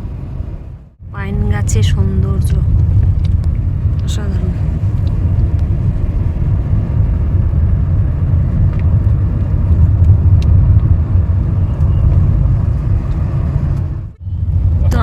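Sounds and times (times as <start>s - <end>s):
car engine rumble: 0.0s - 15.0s
road noise: 0.0s - 15.0s.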